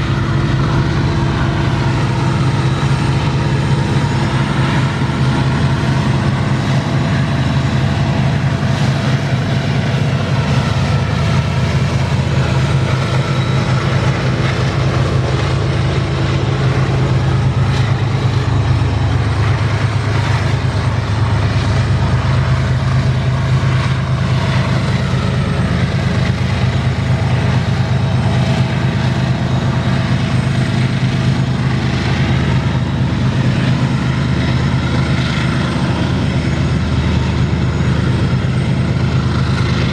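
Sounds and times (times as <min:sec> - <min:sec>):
locomotive engines droning: 0:00.0 - 0:39.9.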